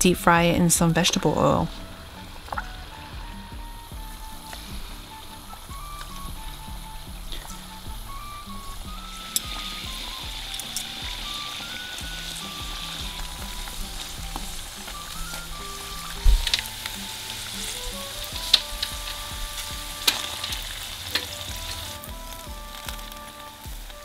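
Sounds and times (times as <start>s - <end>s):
oil sizzling and bubbling: 0.0s - 24.0s
spattering oil pops: 4.5s - 23.9s.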